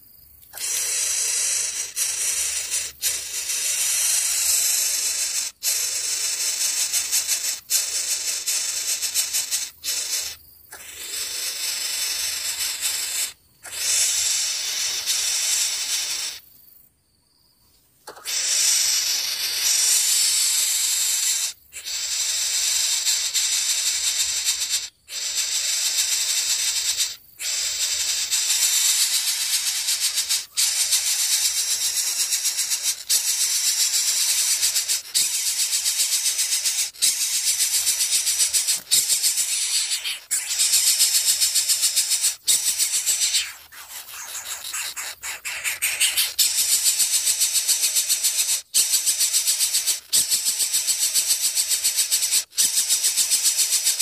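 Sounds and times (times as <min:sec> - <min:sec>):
nestlings hissing: 0:00.0 - 0:16.5, 0:18.1 - 0:54.0.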